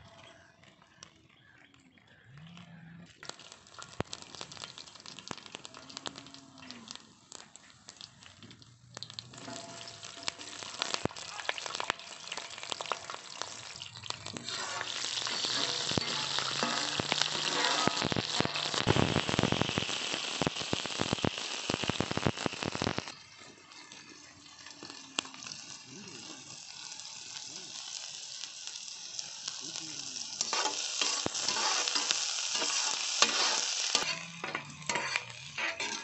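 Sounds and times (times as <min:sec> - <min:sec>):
chillies sizzling in hot oil: 0:03.1 - 0:36.0.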